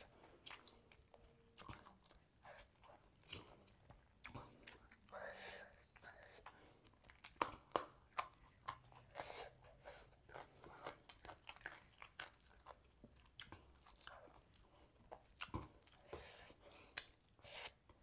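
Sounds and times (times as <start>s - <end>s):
person chewing and crunching: 0.0s - 18.0s.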